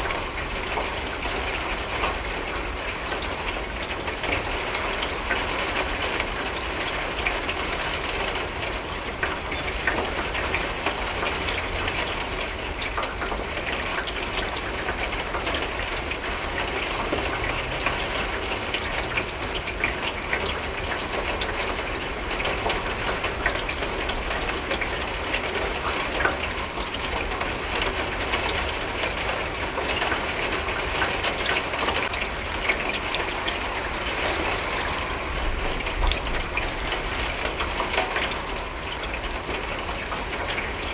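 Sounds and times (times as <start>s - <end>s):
rain pattering on window: 0.0s - 40.9s.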